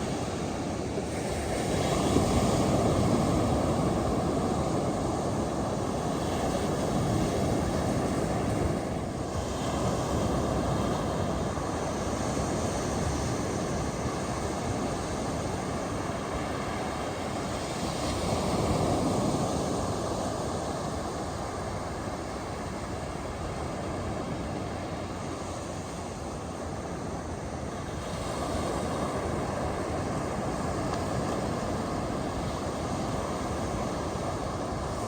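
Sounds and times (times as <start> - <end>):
waves breaking on a beach: 0.0 - 35.0.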